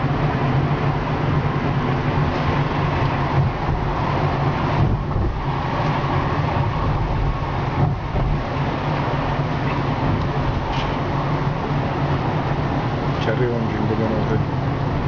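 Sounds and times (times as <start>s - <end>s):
car engine hum: 0.0s - 15.0s
tyre and road noise: 0.0s - 15.0s.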